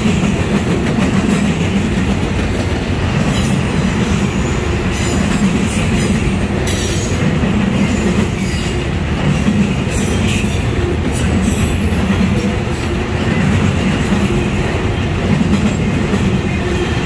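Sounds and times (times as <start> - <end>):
freight cars rolling on rails: 0.0 - 17.0.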